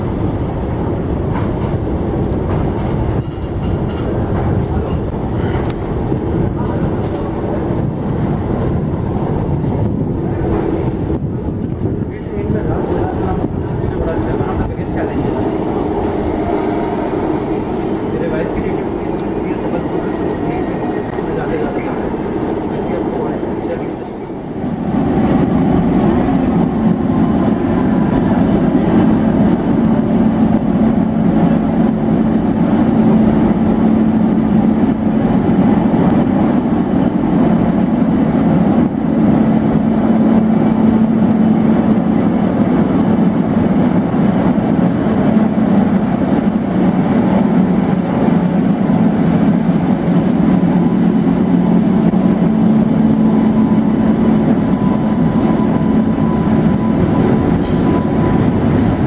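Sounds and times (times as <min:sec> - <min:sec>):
locomotive humming: 0:00.0 - 0:59.0.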